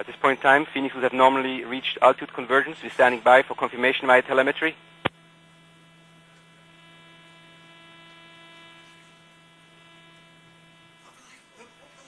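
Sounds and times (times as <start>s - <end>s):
faint buzzy electrical hum: 0.0s - 12.0s.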